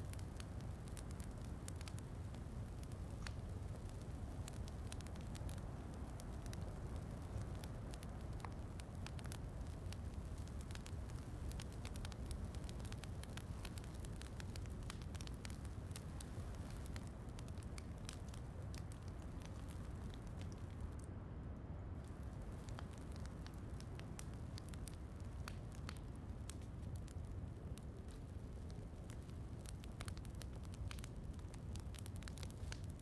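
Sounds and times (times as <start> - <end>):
low fire rumble: 0.0 - 33.0
wood fire crackling: 0.0 - 33.0.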